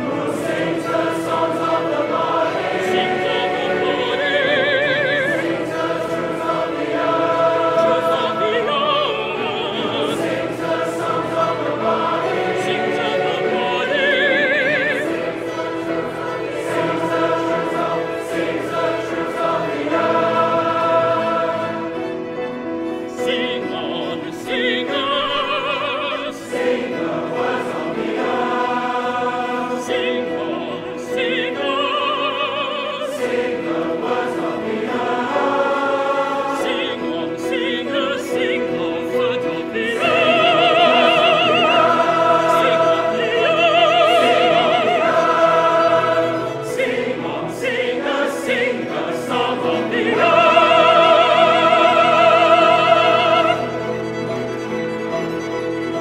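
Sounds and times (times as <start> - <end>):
mixed choir singing: 0.0 - 56.0
piano accompaniment: 0.0 - 56.0
string accompaniment: 0.0 - 56.0.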